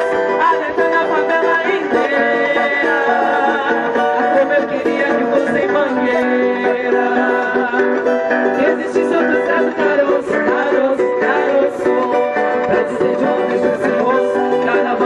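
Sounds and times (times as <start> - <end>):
plucked string music: 0.0 - 15.0.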